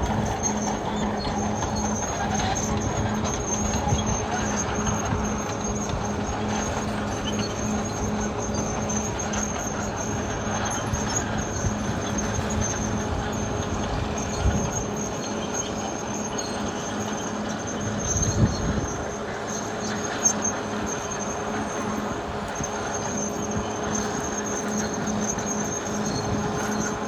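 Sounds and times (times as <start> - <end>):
diesel engine running under load: 0.0 - 27.0
steel tracks clattering: 0.0 - 27.0.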